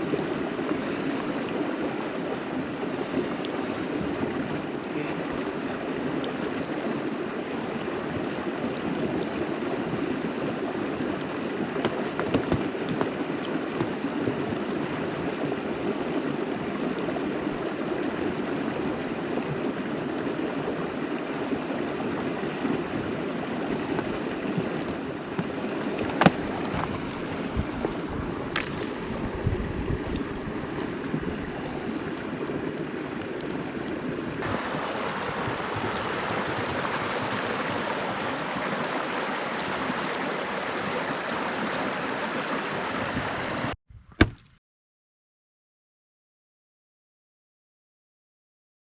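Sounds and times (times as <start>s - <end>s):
stream flowing: 0.0s - 43.8s.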